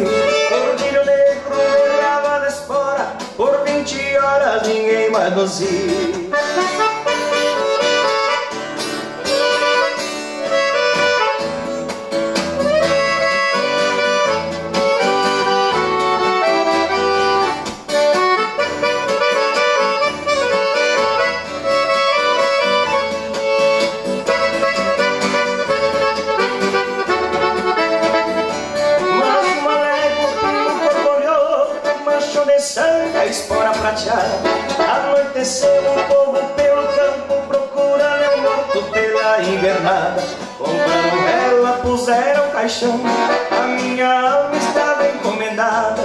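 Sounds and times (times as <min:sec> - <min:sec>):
accordion melody: 0:00.0 - 0:46.0
rhythmic bass accompaniment: 0:00.0 - 0:46.0.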